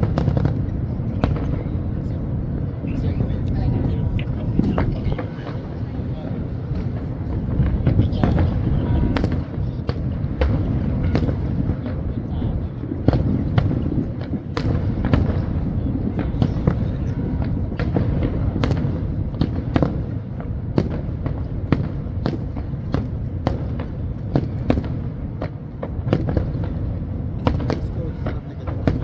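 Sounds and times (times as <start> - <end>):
fireworks bangs and crackles: 0.0 - 29.0
low rumble of distant bursts: 0.0 - 29.0.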